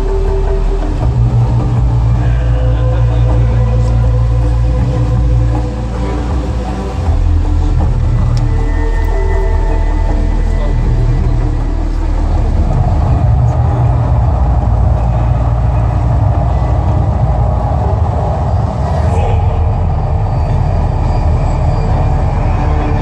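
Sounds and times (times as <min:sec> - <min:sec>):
loud deep rumble: 0:00.0 - 0:23.0.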